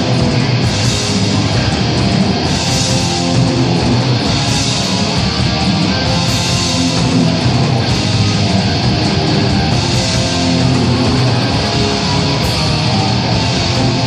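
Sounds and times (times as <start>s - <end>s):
heavy metal rock music: 0.0s - 14.0s.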